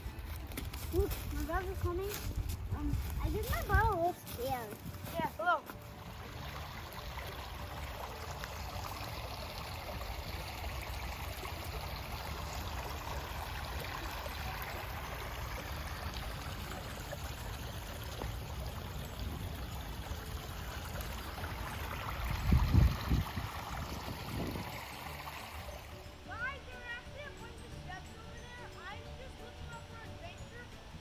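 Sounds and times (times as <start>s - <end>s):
brook running over stones: 0.0s - 26.6s.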